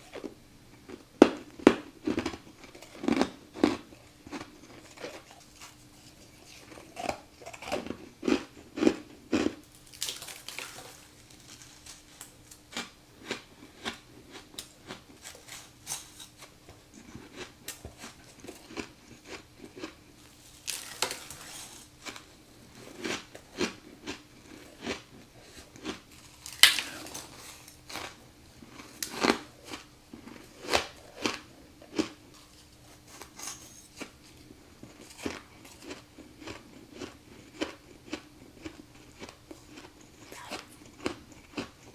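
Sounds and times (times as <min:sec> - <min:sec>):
crunchy ice chewing: 0:02.0 - 0:41.9.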